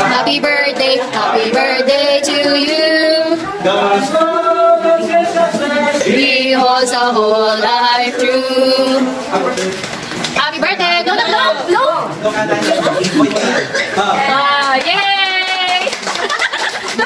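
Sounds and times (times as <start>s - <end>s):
voices singing: 0.0s - 14.8s.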